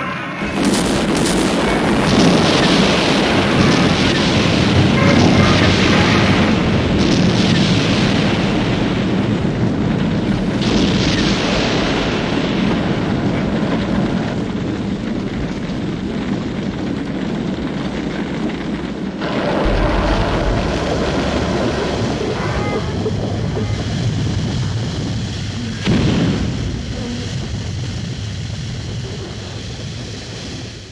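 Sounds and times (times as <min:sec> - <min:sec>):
rumbling roar: 0:00.0 - 0:17.0, 0:19.1 - 0:30.2
deep rumble: 0:00.0 - 0:30.9.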